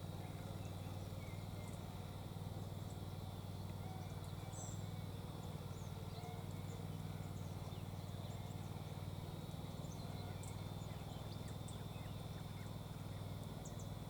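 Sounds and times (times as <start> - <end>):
small birds chirping: 2.6 - 14.0.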